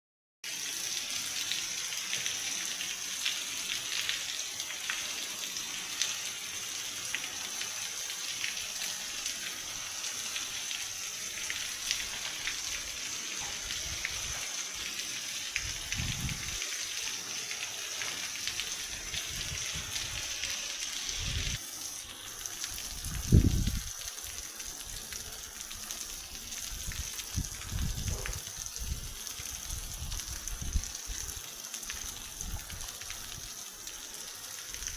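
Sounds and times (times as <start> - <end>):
drips and splashes: 0.4 - 34.9
water running and gushing: 0.4 - 34.9
heavy rain hiss: 3.9 - 34.9.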